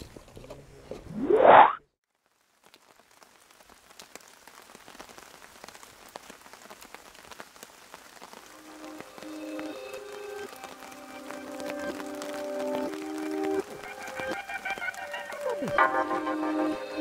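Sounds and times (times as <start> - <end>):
rain pattering and dripping: 2.0 - 17.0.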